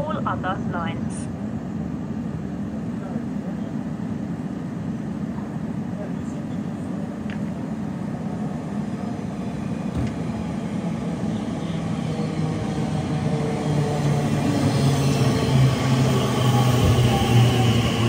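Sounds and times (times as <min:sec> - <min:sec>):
train approaching with low hum: 0:00.0 - 0:18.0.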